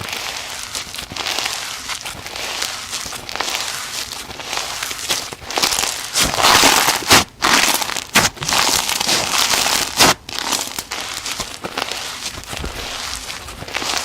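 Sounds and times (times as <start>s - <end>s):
slime squeezed by hand crackling: 0.1s - 14.0s.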